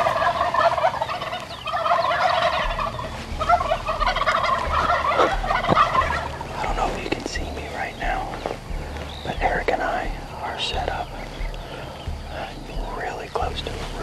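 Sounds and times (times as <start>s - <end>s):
wild turkey gobbling: 0.0s - 14.0s.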